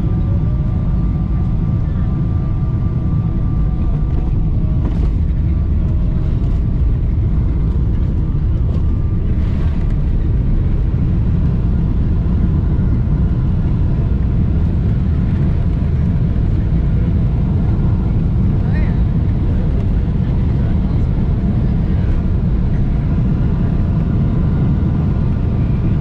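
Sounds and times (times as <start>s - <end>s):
airplane cabin landing rumble: 0.0s - 26.0s.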